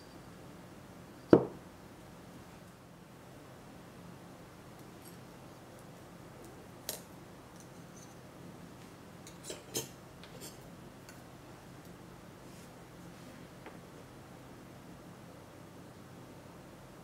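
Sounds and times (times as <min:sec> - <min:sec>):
low room hiss: 0:00.0 - 0:17.0.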